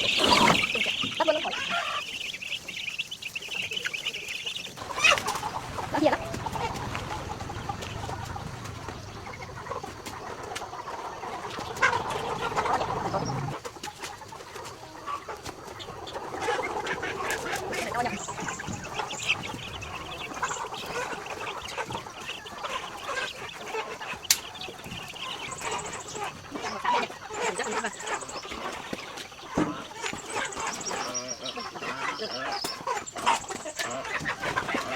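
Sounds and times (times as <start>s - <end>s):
chickens clucking and squawking: 0.0s - 34.9s.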